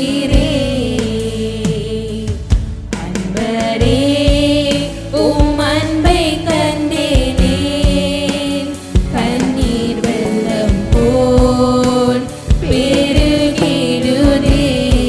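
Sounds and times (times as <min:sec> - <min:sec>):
instruments with steady beat: 0:00.0 - 0:15.0
person singing worship song: 0:00.0 - 0:15.0.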